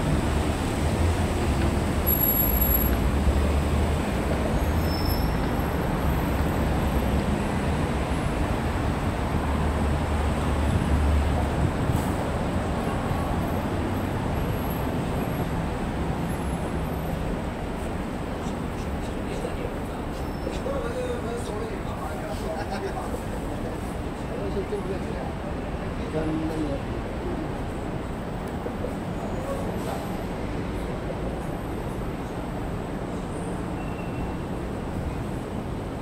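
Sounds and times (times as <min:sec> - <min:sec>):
low traffic rumble: 0:00.0 - 0:36.0
passing vehicles: 0:00.0 - 0:36.0.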